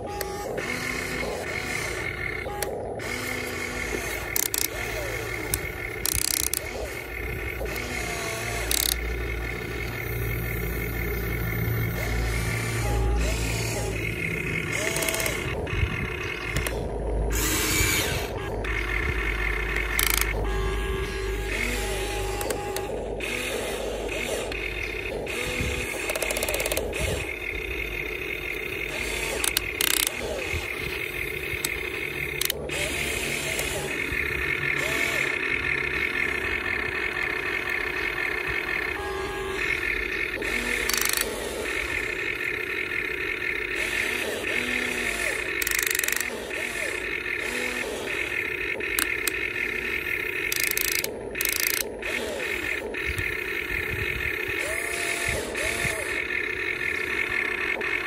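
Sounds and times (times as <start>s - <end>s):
electric motors whining: 0.0s - 58.0s
gear clicking: 0.0s - 58.0s.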